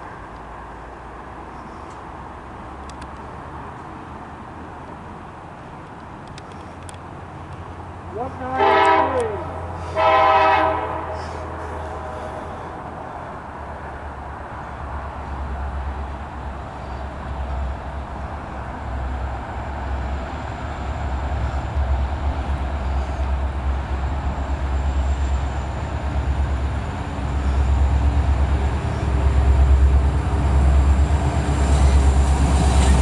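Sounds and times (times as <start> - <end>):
freight train diesel rumble: 0.0 - 33.0.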